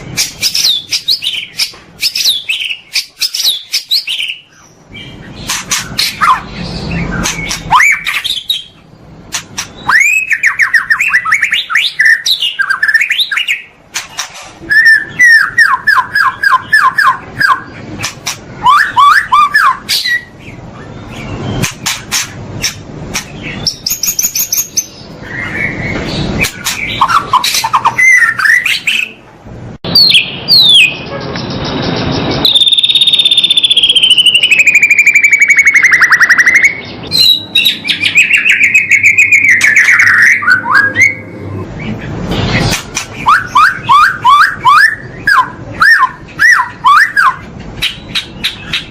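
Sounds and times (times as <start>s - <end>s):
songbird chirps and whistles: 0.0s - 13.7s, 14.6s - 17.8s, 18.6s - 22.0s, 23.4s - 29.2s, 29.9s - 41.6s, 42.6s - 48.9s.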